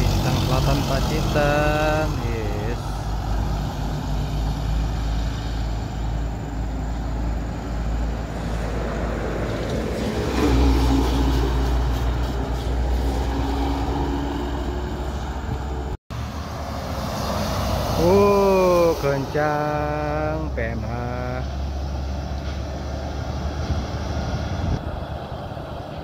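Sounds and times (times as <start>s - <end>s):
heavy vehicles passing on highway: 0.0s - 26.0s.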